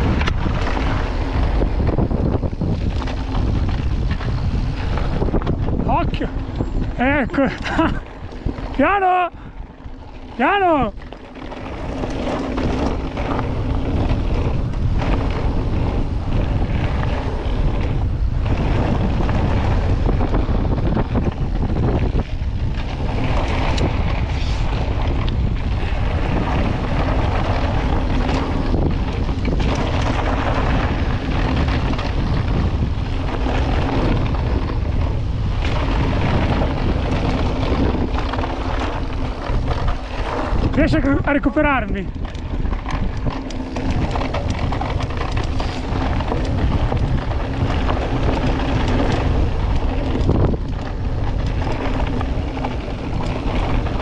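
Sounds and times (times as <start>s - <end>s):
bike rattling: 0.0s - 54.0s
bike tyre noise: 0.0s - 54.0s
wind rush on microphone: 0.0s - 54.0s.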